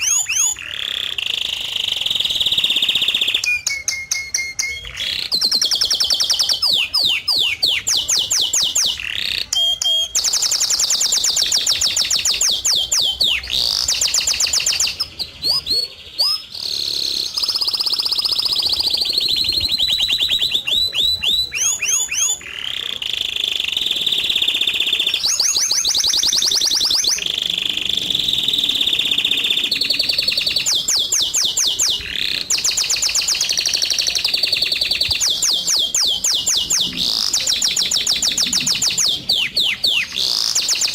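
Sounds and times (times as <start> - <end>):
birdsong trills and chirps: 0.0 - 40.9.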